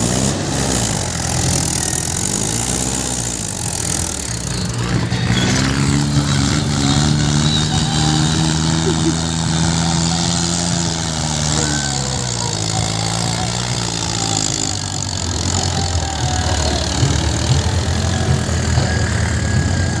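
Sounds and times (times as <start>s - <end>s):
tractor diesel engine working hard: 0.0s - 20.0s.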